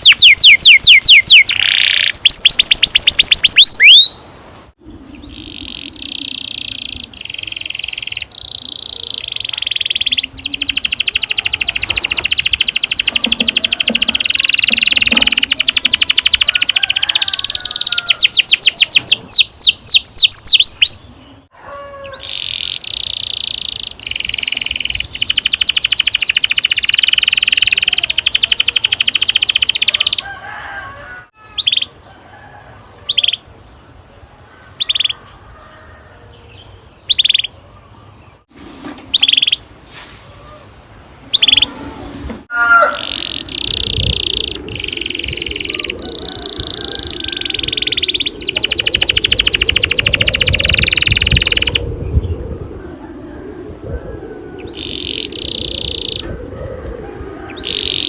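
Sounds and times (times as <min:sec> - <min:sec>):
canary singing trills: 0:00.0 - 0:04.2, 0:05.0 - 0:30.3, 0:31.5 - 0:32.1, 0:32.8 - 0:33.8, 0:34.7 - 0:35.2, 0:36.4 - 0:38.4, 0:39.1 - 0:39.7, 0:41.2 - 0:42.0, 0:42.6 - 0:52.4, 0:54.6 - 0:56.3, 0:57.4 - 0:58.0.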